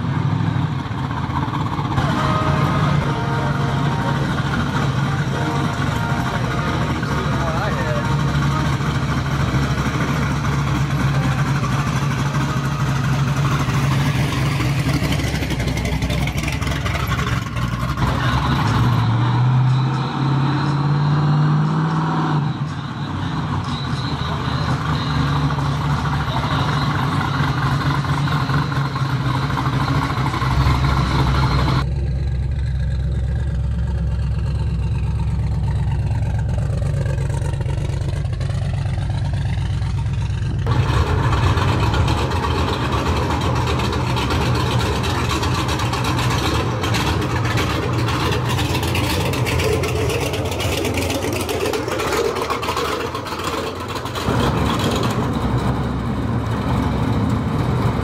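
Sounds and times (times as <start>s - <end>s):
car engine rumbling: 0.0s - 58.0s
pickup truck driving past: 0.0s - 58.0s.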